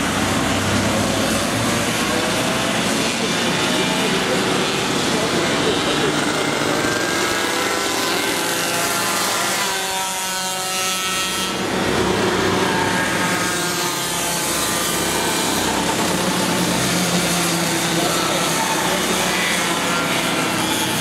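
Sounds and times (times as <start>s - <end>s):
go-kart engines buzzing: 0.0s - 21.0s.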